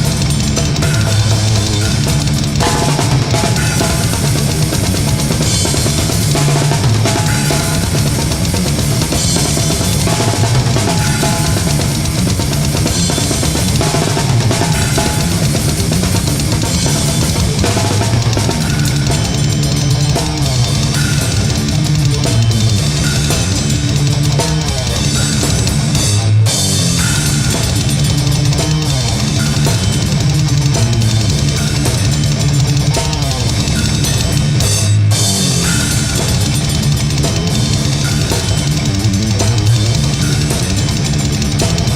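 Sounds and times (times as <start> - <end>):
drum kit: 0.0 - 41.9
heavy metal band playing: 0.0 - 41.9.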